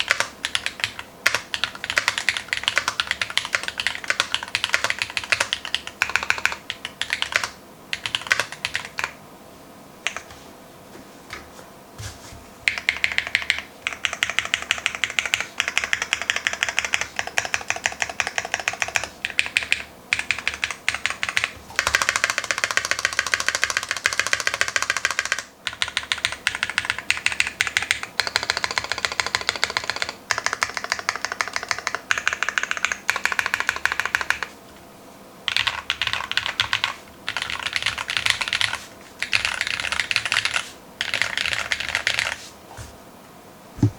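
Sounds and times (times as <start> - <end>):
mechanical keyboard clacks: 0.0 - 9.2, 12.7 - 34.5, 35.5 - 42.4.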